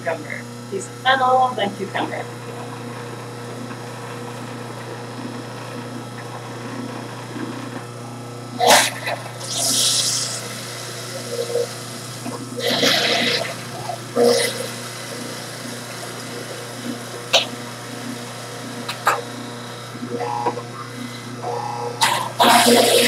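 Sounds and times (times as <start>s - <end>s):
electric juicer motor hum: 0.0s - 23.0s
vegetables crunching in juicer: 2.2s - 23.0s.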